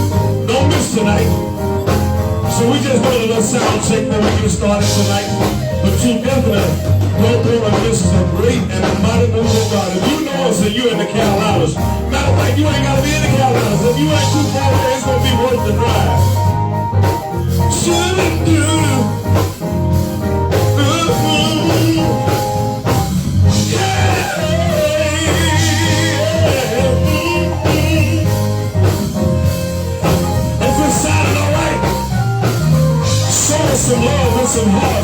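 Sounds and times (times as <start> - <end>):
gospel band playing: 0.0 - 35.0.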